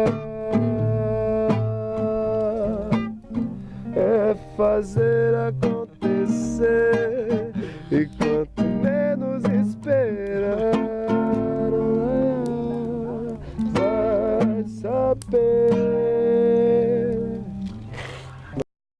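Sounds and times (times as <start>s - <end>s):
acoustic guitar strumming: 0.0s - 18.6s.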